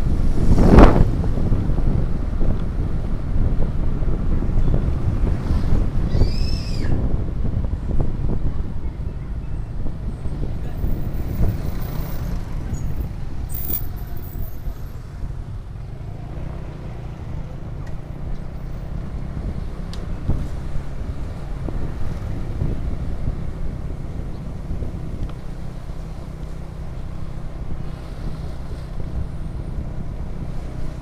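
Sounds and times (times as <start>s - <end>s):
traffic engine rumble: 0.0s - 31.0s.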